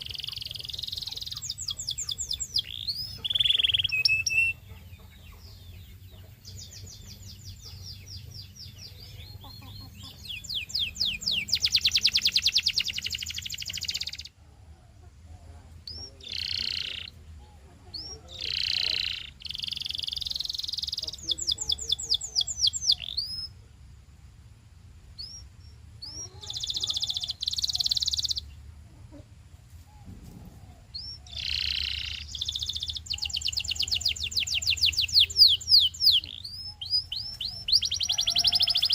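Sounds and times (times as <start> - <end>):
canary singing trills: 0.0 - 23.7, 25.0 - 29.2, 29.9 - 38.9.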